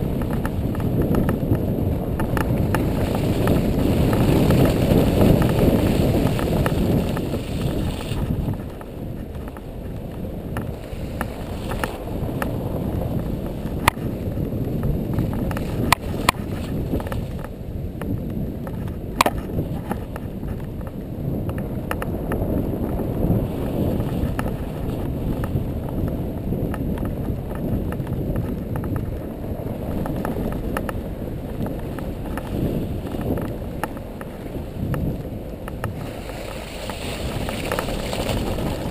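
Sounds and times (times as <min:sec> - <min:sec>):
engine and tyres rumbling: 0:00.0 - 0:38.9
wind buffeting microphone: 0:00.0 - 0:38.9.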